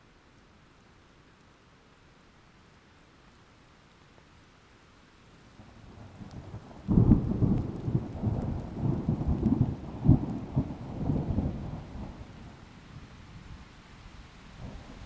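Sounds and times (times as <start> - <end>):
rain: 0.0 - 15.0.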